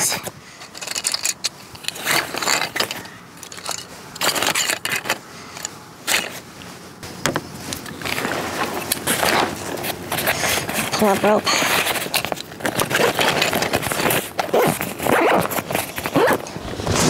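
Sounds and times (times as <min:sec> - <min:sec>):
backpack rustling and scraping: 0:00.0 - 0:17.0.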